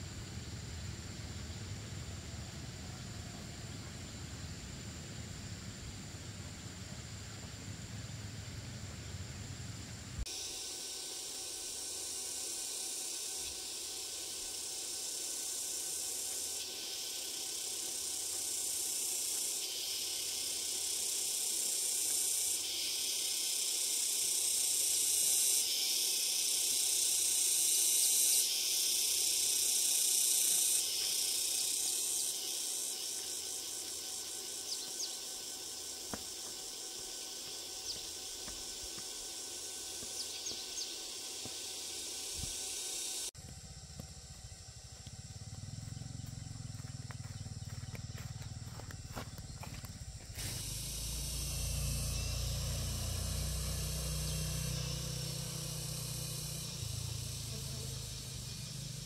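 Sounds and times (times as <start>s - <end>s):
cicadas shrilling: 0.0s - 59.0s.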